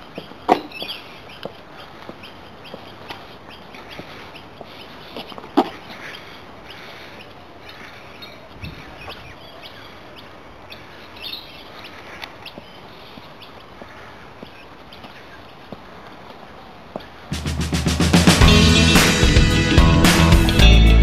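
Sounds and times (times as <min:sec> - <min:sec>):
steady background hiss: 0:00.0 - 0:20.3
birds chirping: 0:00.0 - 0:20.8.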